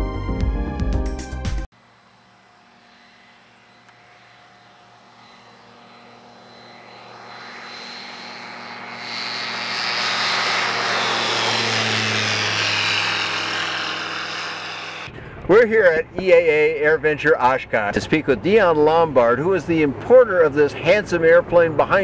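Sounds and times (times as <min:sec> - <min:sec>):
propeller plane engine drone: 0:01.8 - 0:22.0.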